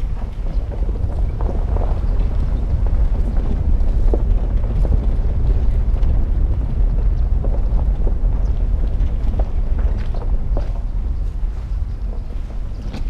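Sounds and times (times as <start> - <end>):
stones clicking under tyres: 0.0 - 13.0.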